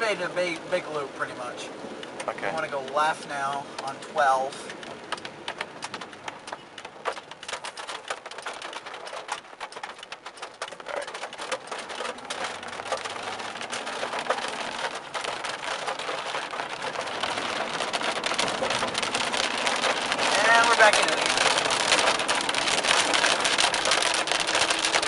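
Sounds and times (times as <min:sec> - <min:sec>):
rain hitting car windshield and roof: 0:00.0 - 0:25.0.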